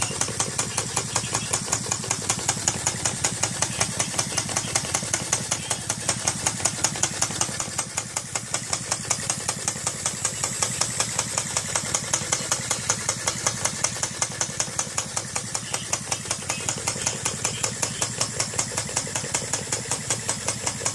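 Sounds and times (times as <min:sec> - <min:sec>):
model engine rapid clicking: 0:00.0 - 0:20.9.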